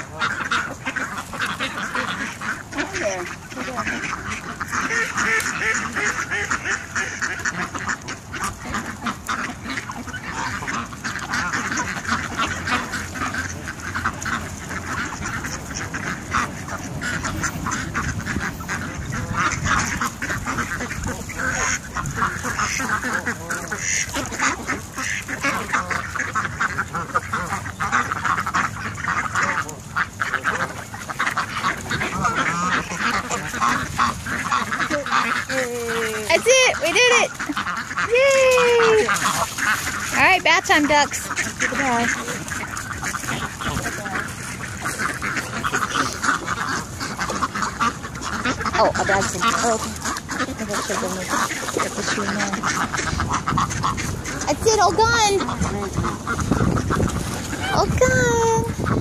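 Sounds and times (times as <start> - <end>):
ducks and geese quacking and honking: 0.0 - 59.0.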